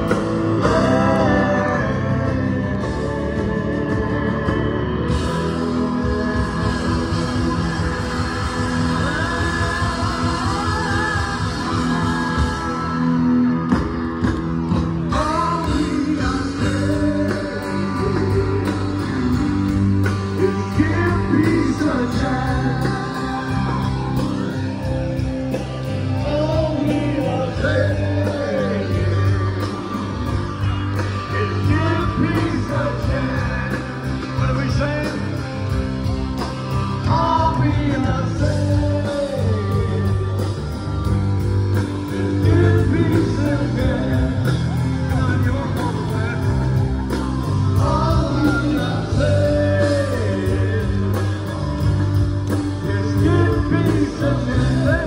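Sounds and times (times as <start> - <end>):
bass line: 0.0 - 55.0
guitar: 0.0 - 55.0
person singing: 0.0 - 55.0.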